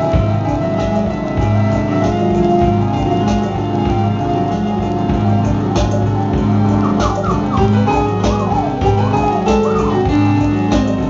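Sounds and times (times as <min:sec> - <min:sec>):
low keyboard notes: 0:00.0 - 0:11.0.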